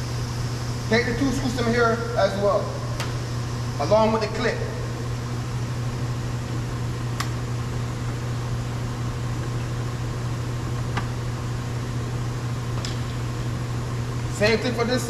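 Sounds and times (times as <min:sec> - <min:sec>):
low mechanical hum with hiss: 0:00.0 - 0:15.0.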